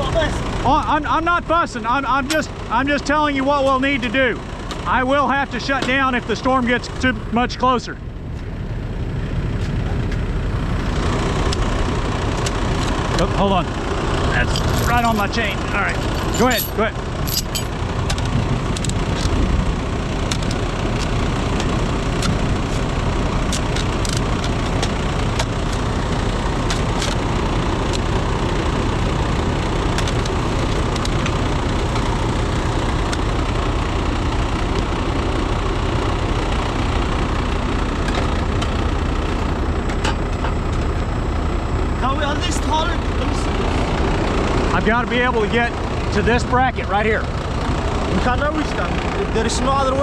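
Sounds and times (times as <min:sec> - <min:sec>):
diesel engine idling: 0:00.0 - 0:50.0.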